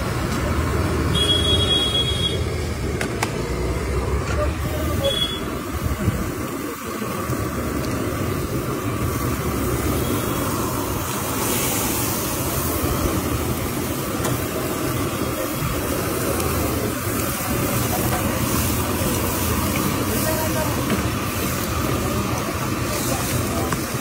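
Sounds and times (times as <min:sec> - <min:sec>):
traffic hum: 0:00.0 - 0:24.0.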